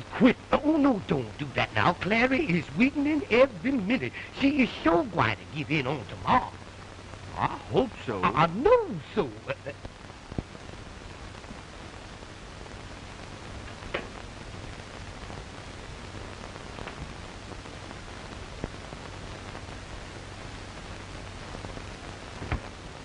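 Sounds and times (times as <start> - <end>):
film soundtrack hiss and crackle: 0.0 - 23.0.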